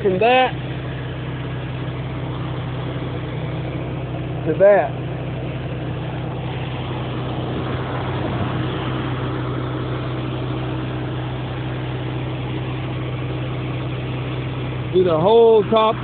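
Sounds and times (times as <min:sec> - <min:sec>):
pressure washer engine: 0:00.0 - 0:16.0.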